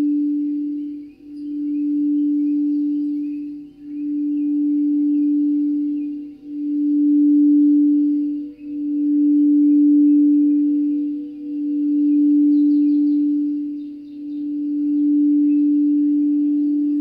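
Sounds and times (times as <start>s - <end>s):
singing bowl humming: 0.0s - 17.0s.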